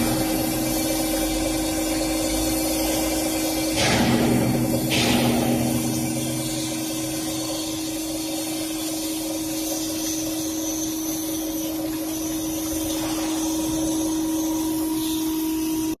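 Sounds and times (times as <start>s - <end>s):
gear hobbing machine hum: 0.0s - 16.0s
hiss: 0.0s - 16.0s.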